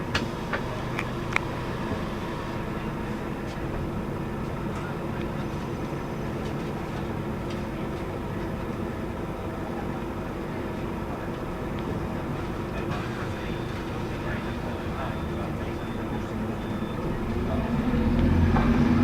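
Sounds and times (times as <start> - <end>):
bus engine and road drone: 0.0 - 19.0.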